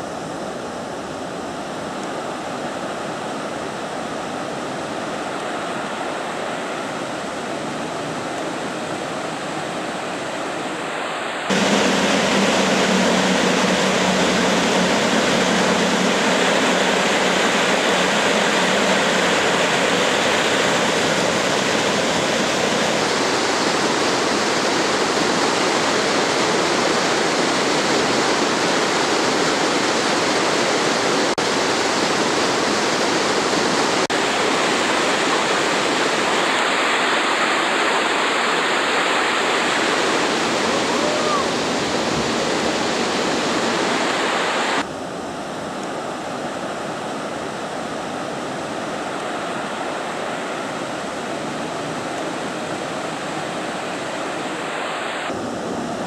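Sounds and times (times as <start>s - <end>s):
whitewater river rushing: 0.0s - 56.0s.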